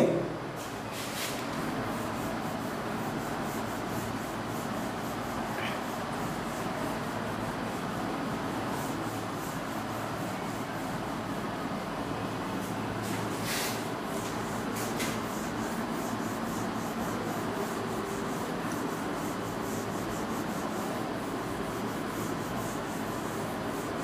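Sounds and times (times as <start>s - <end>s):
eraser rubbing on whiteboard: 0.7s - 11.3s, 12.6s - 24.0s.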